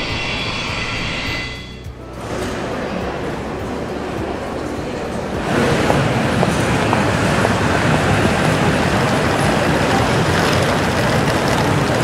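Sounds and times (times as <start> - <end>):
terminal hall rumble and hiss: 0.0 - 12.0.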